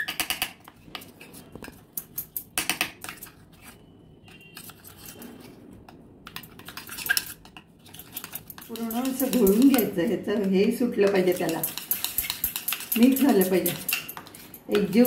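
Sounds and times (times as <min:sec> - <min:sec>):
spoon scraping a bowl: 0:00.0 - 0:15.0.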